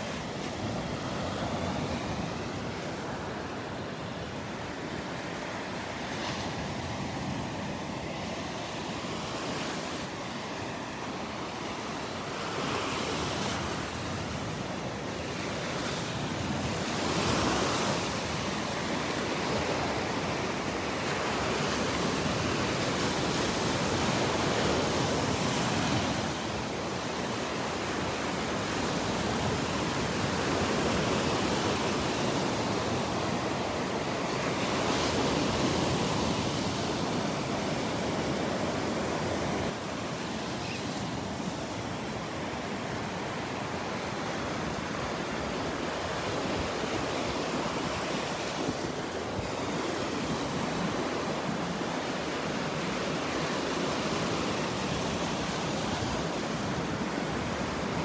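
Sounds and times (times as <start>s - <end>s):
ocean surf washing onto beach: 0.0s - 58.0s.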